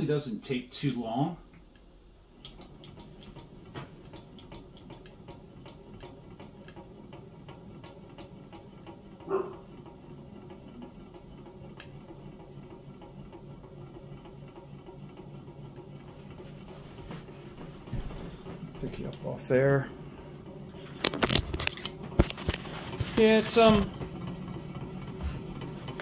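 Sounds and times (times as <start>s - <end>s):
fan engine pulsing hum: 0.0s - 26.0s.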